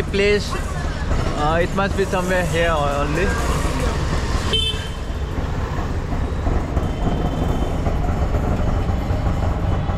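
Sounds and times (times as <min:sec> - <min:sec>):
autorickshaw engine and road rumble: 0:00.0 - 0:09.9
tyre and traffic noise: 0:00.0 - 0:09.9.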